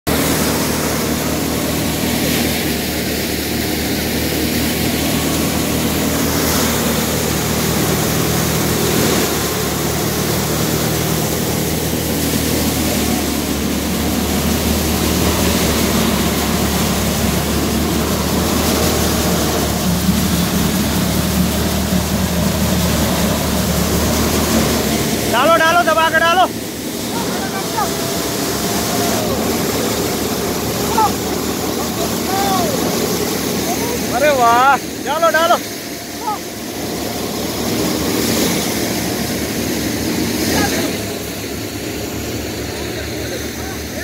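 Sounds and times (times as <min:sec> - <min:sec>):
thresher mechanical din: 0:00.1 - 0:43.5
low hum: 0:00.1 - 0:44.0.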